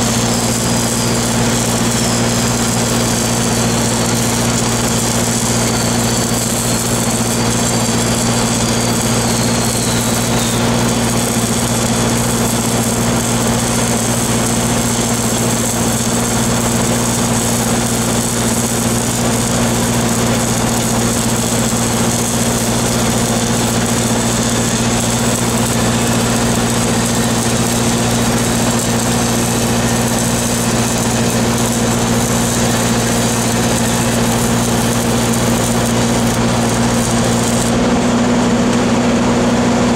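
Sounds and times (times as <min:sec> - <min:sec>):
welding arc crackling: 0:00.0 - 0:38.2.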